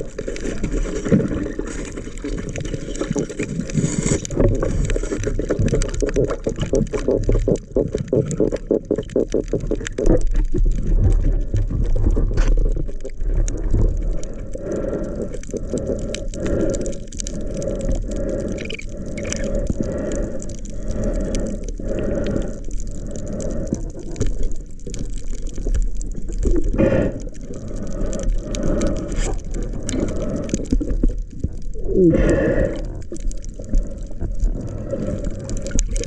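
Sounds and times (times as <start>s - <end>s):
muffled underwater rushing: 0.0s - 36.0s.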